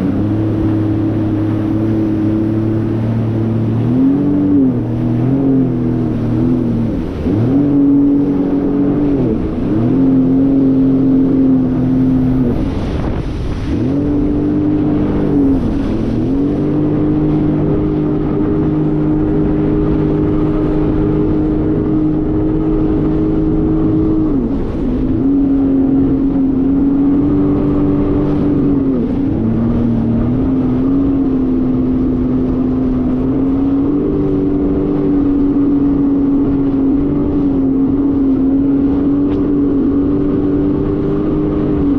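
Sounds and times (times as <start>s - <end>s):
jet ski engine humming: 0.0s - 41.9s
wind on microphone: 0.0s - 41.9s.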